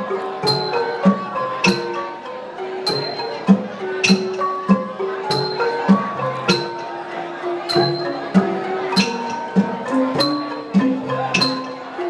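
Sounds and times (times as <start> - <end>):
barrel drum beat: 0.0 - 2.2, 2.9 - 12.0
wooden xylophone melody: 0.0 - 12.0
hand cymbals ringing: 0.4 - 2.2, 2.8 - 6.9, 7.6 - 12.0.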